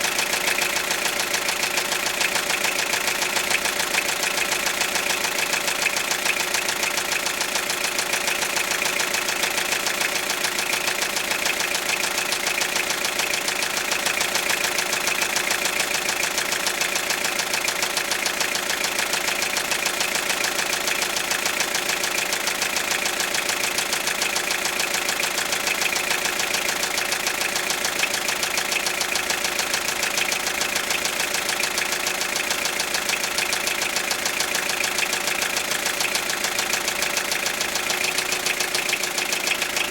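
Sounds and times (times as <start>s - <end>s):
turbodiesel engine idling with knock: 0.0s - 39.9s.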